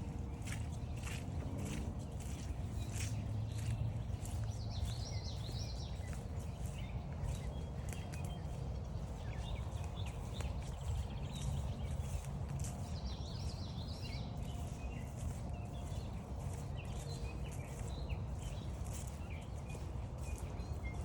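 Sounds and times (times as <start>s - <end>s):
footsteps on dirt trail: 0.0s - 21.0s
songbirds chirping: 0.0s - 21.0s
steady low rumble: 0.0s - 21.0s.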